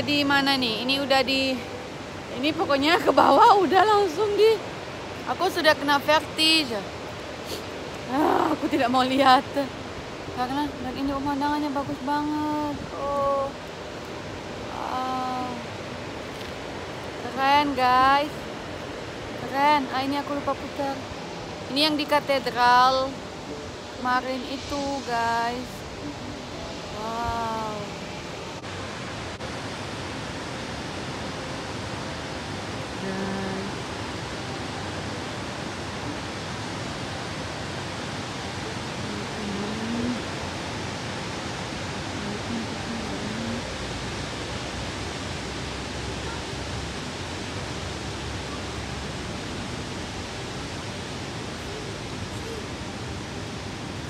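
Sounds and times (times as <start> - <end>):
river water pouring over weir: 0.0 - 54.0.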